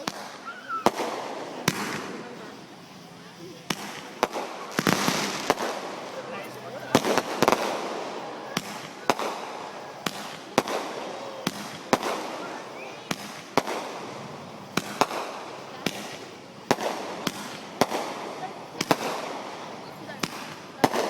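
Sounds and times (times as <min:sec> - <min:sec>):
fireworks bangs: 0:00.0 - 0:21.0
fireworks hiss: 0:00.0 - 0:21.0.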